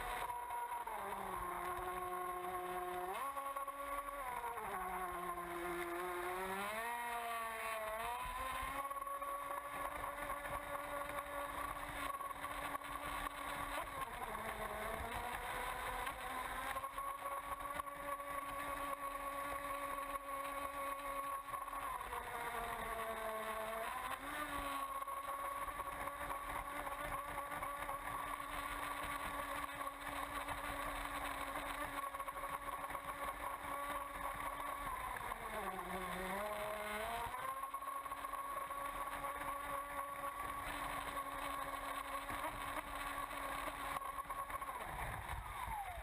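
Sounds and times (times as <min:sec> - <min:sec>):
high-pitched boat motor: 0:00.0 - 0:46.0.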